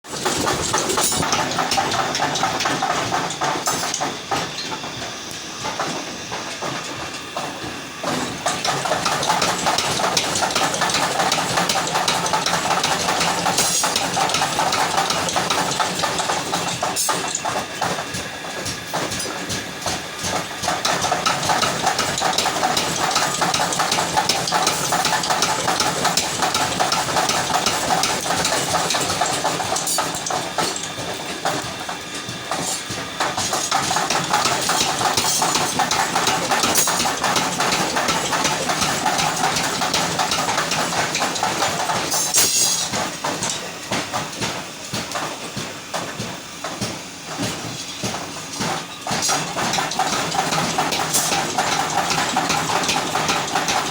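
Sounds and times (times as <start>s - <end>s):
machinery clattering: 0.1s - 53.9s.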